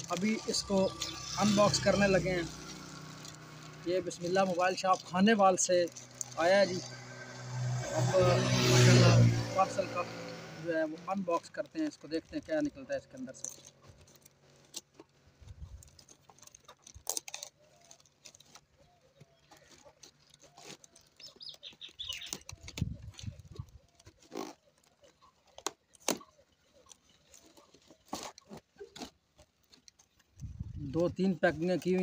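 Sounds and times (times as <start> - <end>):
packaging rustling and crinkling: 0.0 - 6.4, 11.2 - 30.7.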